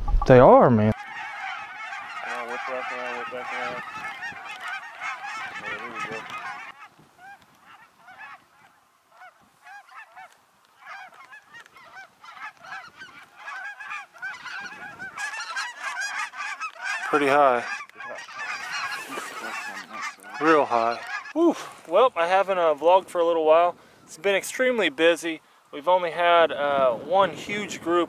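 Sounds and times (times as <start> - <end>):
flock of geese calling: 0.9 - 28.0.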